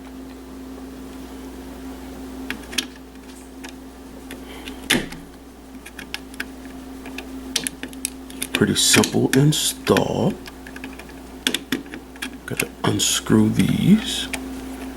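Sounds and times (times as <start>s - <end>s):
steady electrical hum: 0.0s - 14.9s.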